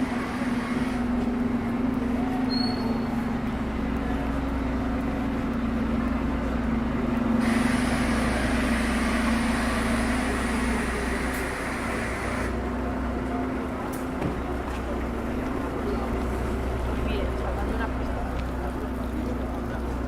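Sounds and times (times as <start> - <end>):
wash of noise: 0.0 - 20.0.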